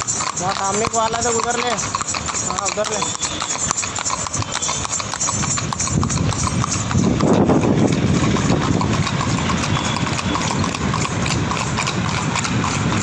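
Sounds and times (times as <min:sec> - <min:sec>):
hooves clip-clopping on asphalt: 0:00.0 - 0:13.0.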